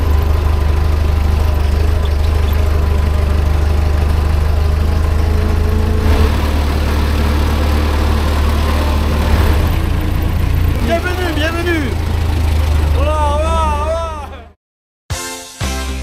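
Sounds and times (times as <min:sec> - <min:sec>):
car engine low drone: 0:00.0 - 0:14.6.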